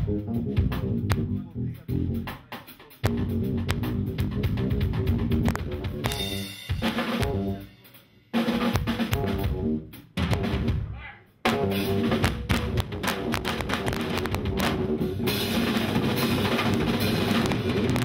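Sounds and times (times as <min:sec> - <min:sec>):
electric bass: 0:00.0 - 0:02.4, 0:03.0 - 0:07.7, 0:08.8 - 0:10.9, 0:11.5 - 0:18.0
drum kit: 0:00.0 - 0:18.0.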